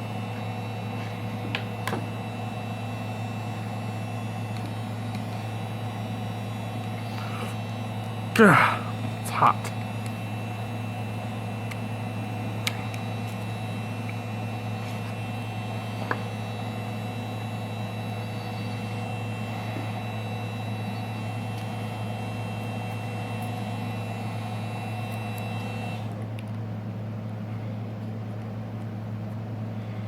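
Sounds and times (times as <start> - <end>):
heat gun fan humming: 0.0 - 30.0.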